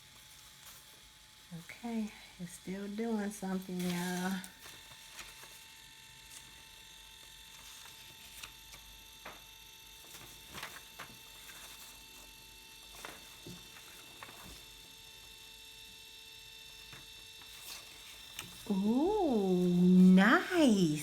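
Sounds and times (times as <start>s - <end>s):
photo printer hum and whine: 0.0s - 21.0s.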